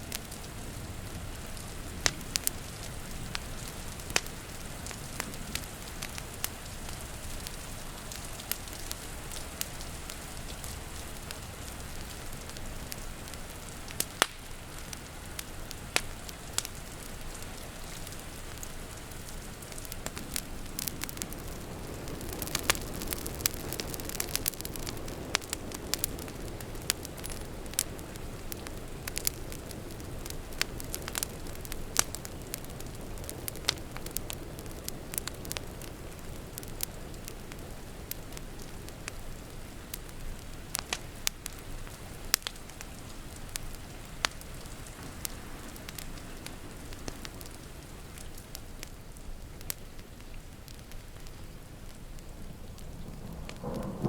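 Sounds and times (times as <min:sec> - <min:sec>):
rain falling: 0:00.0 - 0:54.0
wood fire crackling: 0:00.0 - 0:54.0.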